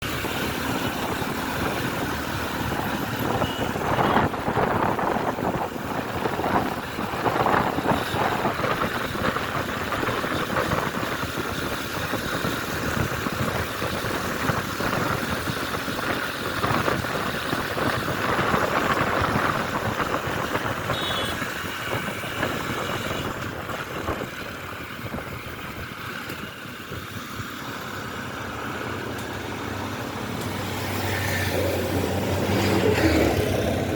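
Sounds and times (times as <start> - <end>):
traffic: 0.0 - 33.9
wind and road noise: 0.0 - 33.9.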